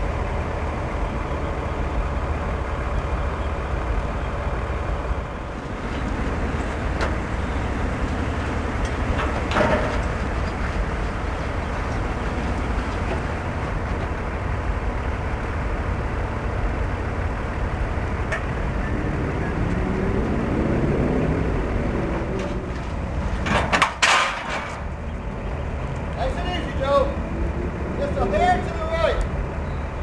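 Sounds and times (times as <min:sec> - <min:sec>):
truck engine rumbling: 0:00.0 - 0:30.0.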